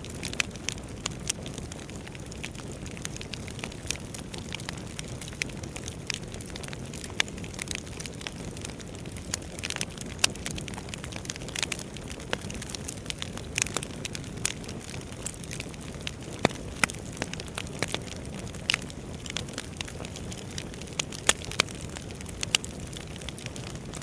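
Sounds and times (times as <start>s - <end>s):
low rumble of flames: 0.0s - 24.0s
wood fire popping and snapping: 0.0s - 24.0s.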